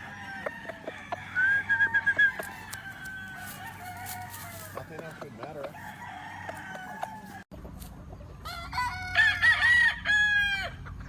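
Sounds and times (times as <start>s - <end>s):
rooster crowing: 0.0s - 7.5s, 8.4s - 10.8s.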